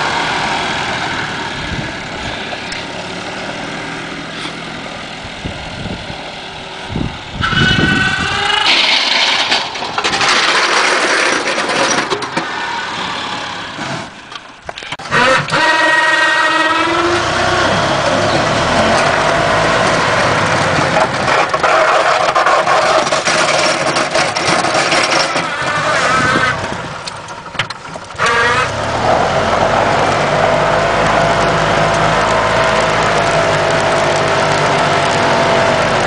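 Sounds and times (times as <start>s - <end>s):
golf cart engine running: 0.0s - 36.0s.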